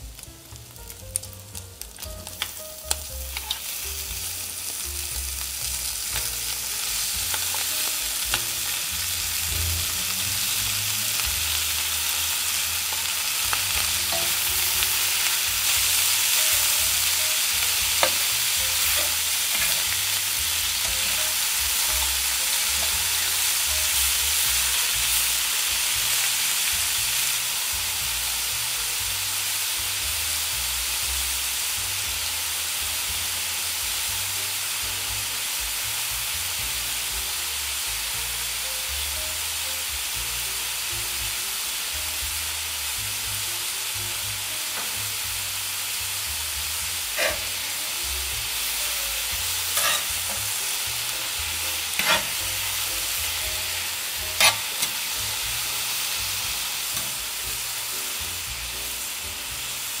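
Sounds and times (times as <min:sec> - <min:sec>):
food sizzling in a pan: 0:00.0 - 1:00.0.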